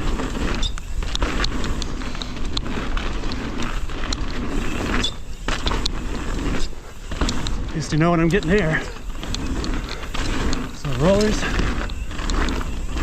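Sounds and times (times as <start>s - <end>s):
bike rattling and clacking: 0.0s - 13.0s
tyre and wind noise: 0.0s - 13.0s.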